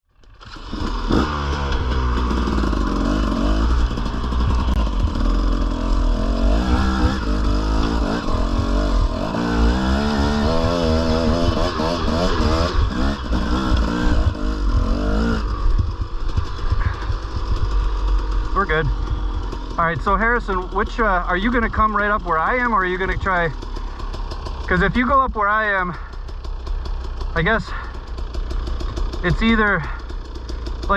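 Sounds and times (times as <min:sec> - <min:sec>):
dirt bike engine revving: 0:00.2 - 0:30.9.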